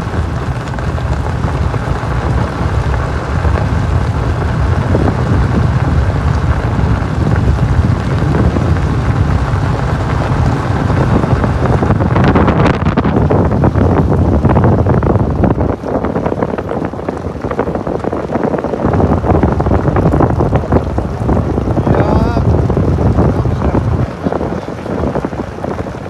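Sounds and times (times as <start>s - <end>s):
crackling: 0.0s - 26.0s
vehicle rumbling on gravel road: 0.0s - 26.0s
wind buffeting microphone: 0.0s - 26.0s.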